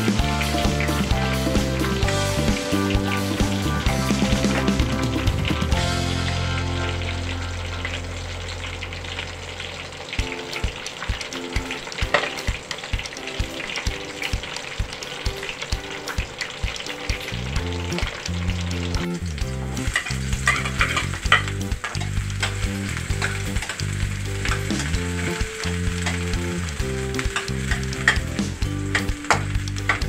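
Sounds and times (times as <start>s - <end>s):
background music with beat: 0.0s - 8.3s, 10.2s - 30.0s
food sizzling in hot oil: 0.0s - 30.0s.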